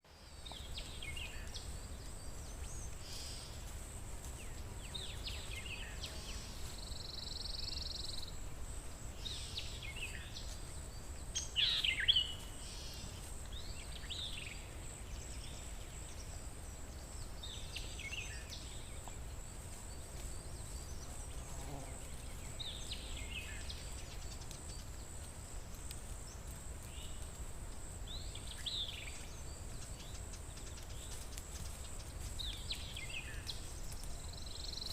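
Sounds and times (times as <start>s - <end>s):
songbirds chirping: 0.0s - 34.9s
high insect drone: 0.2s - 34.9s.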